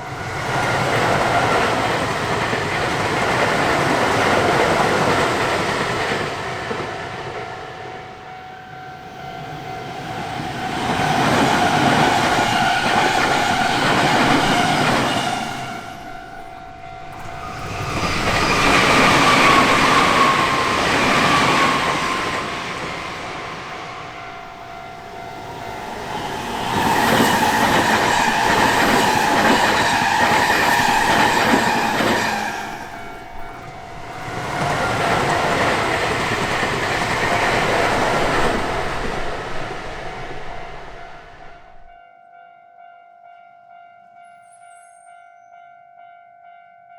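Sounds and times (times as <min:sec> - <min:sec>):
trains passing: 0:00.0 - 0:42.0.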